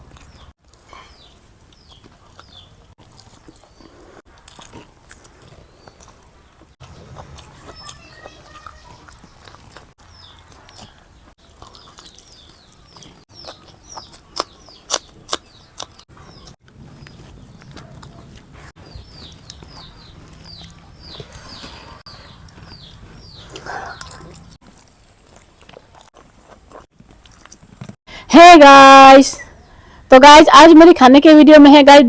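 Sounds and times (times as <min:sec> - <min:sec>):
chewing and crunchy bites: 0:00.0 - 0:28.0.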